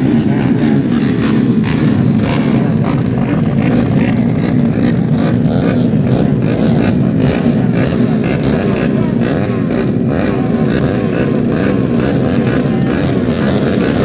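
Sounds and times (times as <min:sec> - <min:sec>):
race motorcycle engines: 0:00.0 - 0:14.0.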